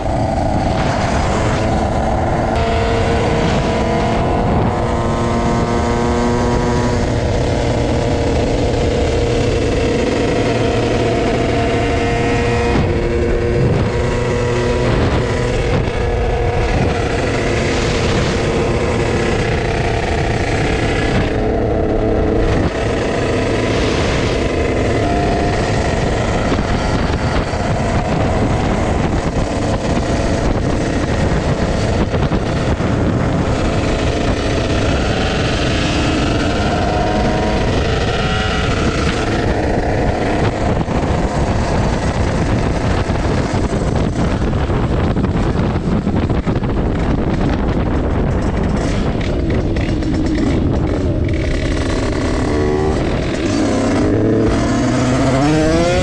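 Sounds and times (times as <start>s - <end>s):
two-stroke moped engine: 0.0s - 56.0s
wind rushing over microphone: 0.0s - 56.0s.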